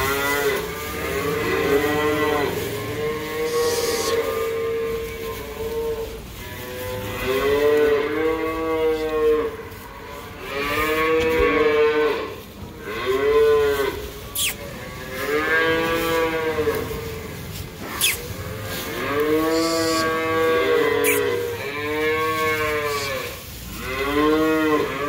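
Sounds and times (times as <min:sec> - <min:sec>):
cattle mooing: 0:00.0 - 0:25.0.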